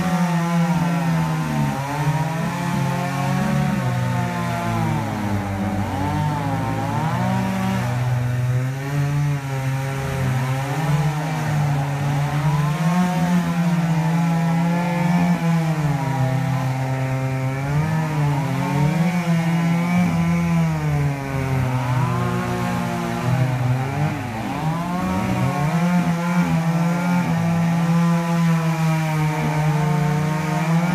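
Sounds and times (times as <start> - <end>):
chainsaws cutting wood: 0.0 - 30.9.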